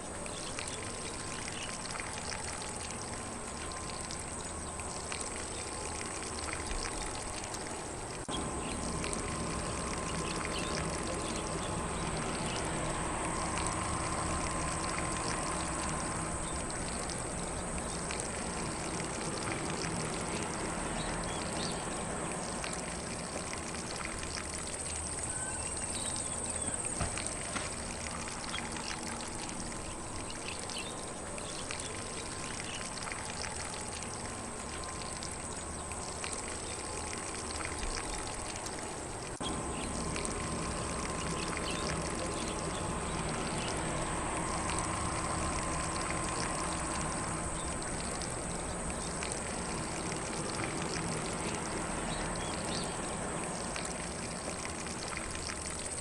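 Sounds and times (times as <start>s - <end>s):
faint birdsong: 0.0s - 55.2s
lawn sprinkler spraying water: 0.0s - 56.0s.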